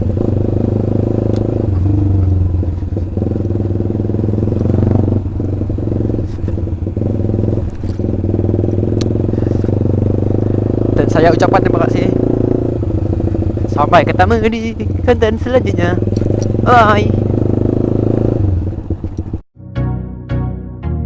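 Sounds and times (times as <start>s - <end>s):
motorcycle engine through loud exhaust: 0.0s - 19.4s.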